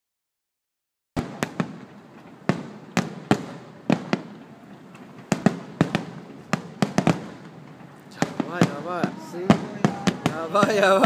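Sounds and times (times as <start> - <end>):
fireworks bangs: 1.2 - 11.0
fireworks crackling and rumble: 1.2 - 11.0.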